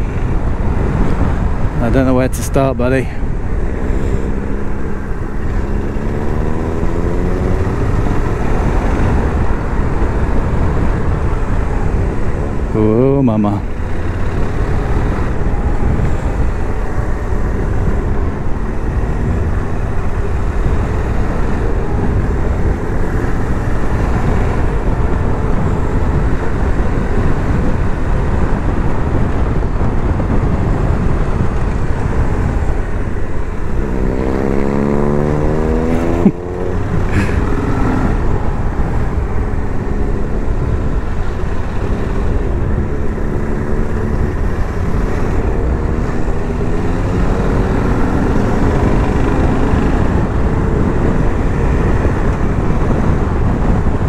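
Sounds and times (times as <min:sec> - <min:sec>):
wind rush: 0:00.0 - 0:54.0
motorcycle engine revving: 0:03.4 - 0:54.0.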